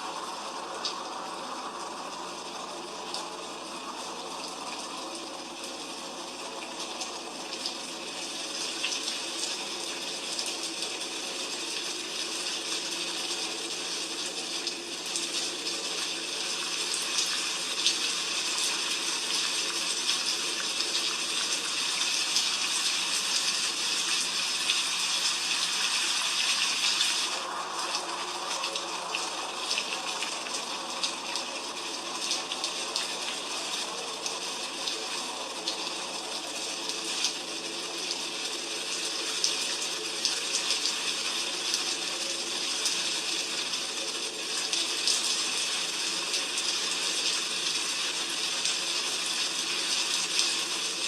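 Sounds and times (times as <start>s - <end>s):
heavy rain falling: 0.0s - 51.0s.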